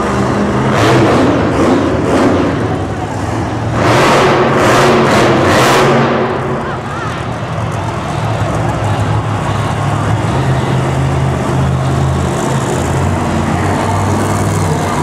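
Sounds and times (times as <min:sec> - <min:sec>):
monster truck engines running: 0:00.0 - 0:15.0.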